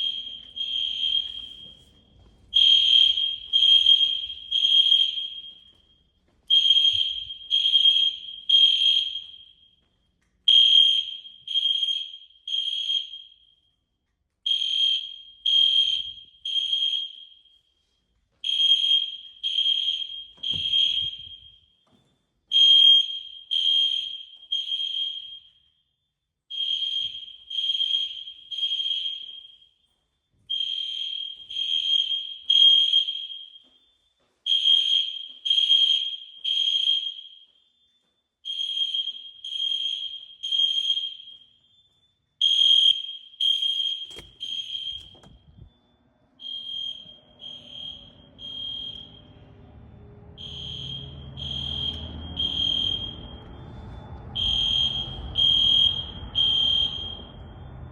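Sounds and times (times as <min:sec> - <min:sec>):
fire alarm beeping: 0:00.0 - 0:57.9.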